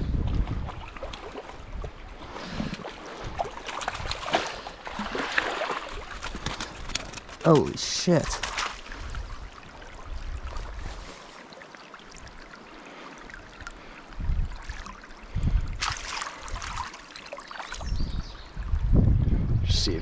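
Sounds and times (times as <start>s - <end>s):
water splashes and bumps: 0.0s - 18.0s
stream trickling over rocks: 0.1s - 19.0s.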